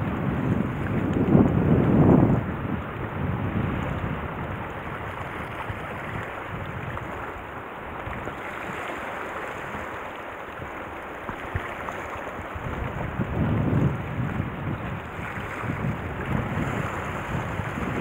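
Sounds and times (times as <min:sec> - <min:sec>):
sea water washing against rocks: 0:00.0 - 0:18.0
wind on microphone: 0:00.0 - 0:18.0.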